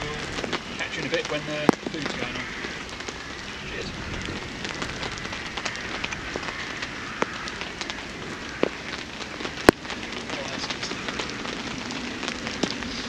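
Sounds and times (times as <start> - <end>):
campfire crackling and popping: 0.0 - 13.0
fire hiss: 0.0 - 13.0.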